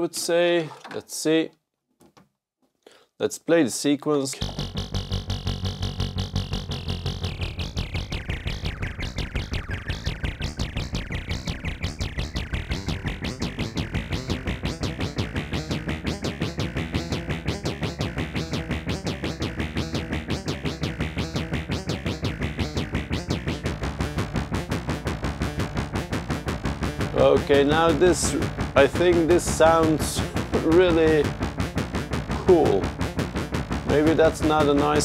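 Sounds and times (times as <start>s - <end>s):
synthesizer playing fast repeating notes: 4.4s - 35.0s.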